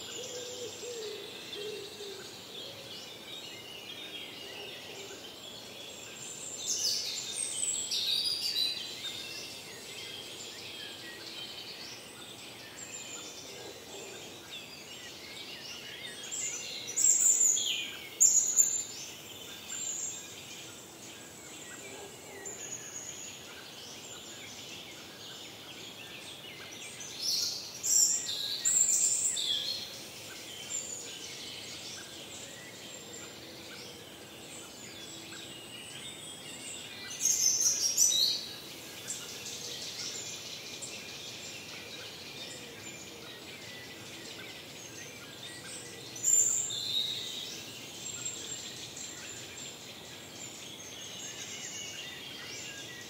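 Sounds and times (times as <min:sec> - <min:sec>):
distant bird song: 0:00.0 - 0:53.0.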